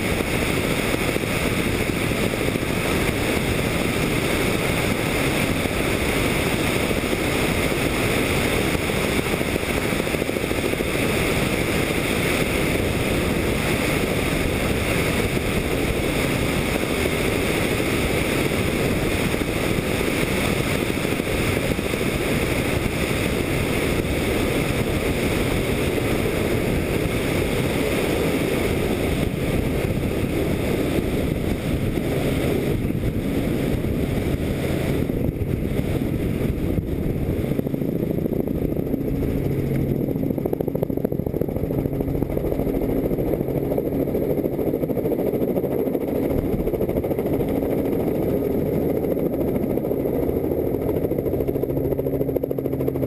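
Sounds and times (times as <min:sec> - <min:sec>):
helicopter engine and rotor: 0:00.0 - 0:53.0
wind rushing over microphone: 0:00.0 - 0:53.0.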